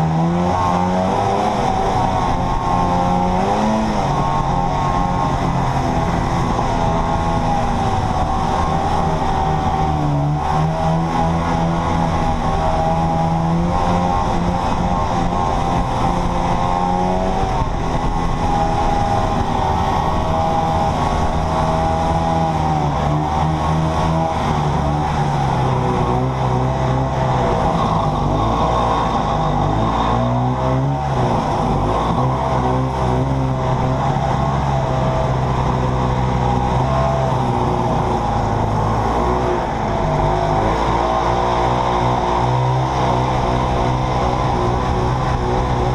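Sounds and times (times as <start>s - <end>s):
snowmobile engine running: 0.0s - 45.9s.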